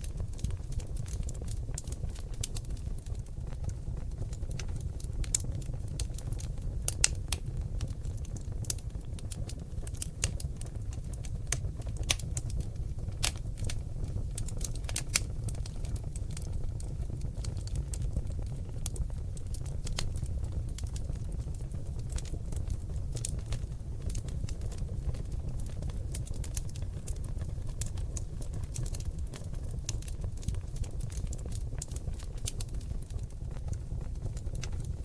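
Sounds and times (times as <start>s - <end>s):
logs crackling and popping: 0.0s - 35.0s
low rumble of flames: 0.0s - 35.0s.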